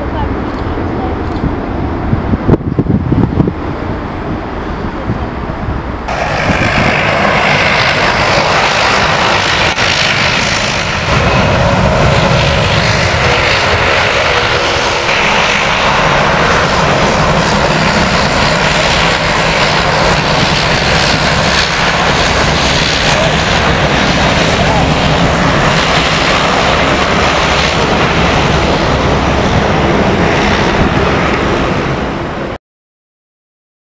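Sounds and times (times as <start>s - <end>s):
jet engines at takeoff: 0.0s - 32.6s.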